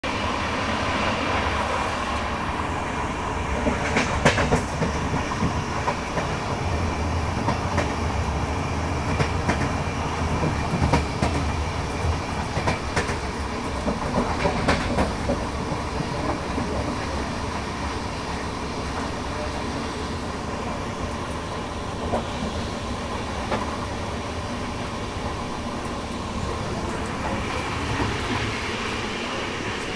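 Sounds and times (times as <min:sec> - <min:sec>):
wheels rumbling on rail: 0:00.0 - 0:29.9.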